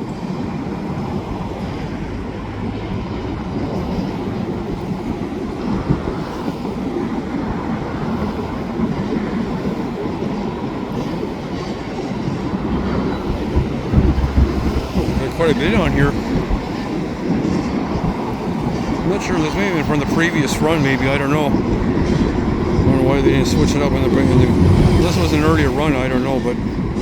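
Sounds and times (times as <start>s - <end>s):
freight train rolling past: 0.0s - 27.0s.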